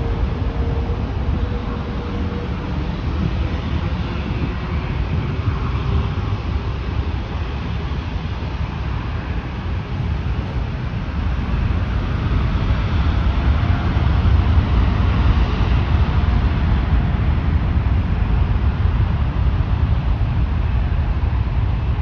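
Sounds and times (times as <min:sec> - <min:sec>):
jet engines at takeoff: 0:00.0 - 0:22.0.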